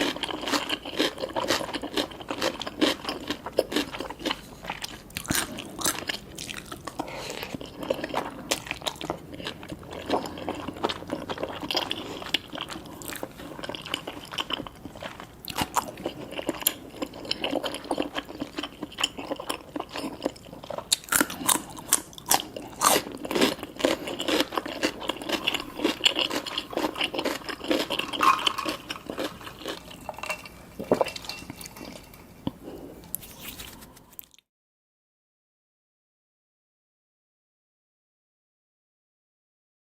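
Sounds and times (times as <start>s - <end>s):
chewing noodles: 0.0s - 32.3s.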